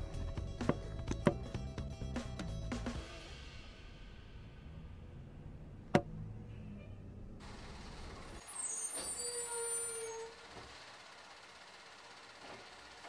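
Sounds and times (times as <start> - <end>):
truck engine rumble: 0.0 - 3.1, 3.9 - 13.0.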